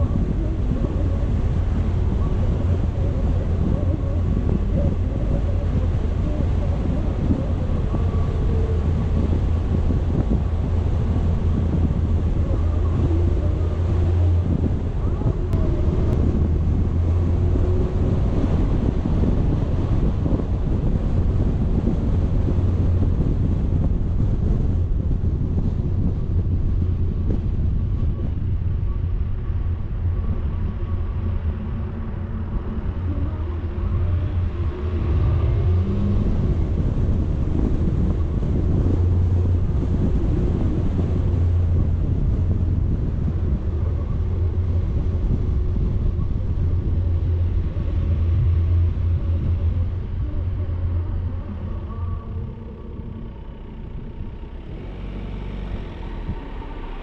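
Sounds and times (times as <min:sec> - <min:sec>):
vehicle engine and road noise: 0:00.0 - 0:57.0
wind buffeting microphone: 0:00.0 - 0:57.0.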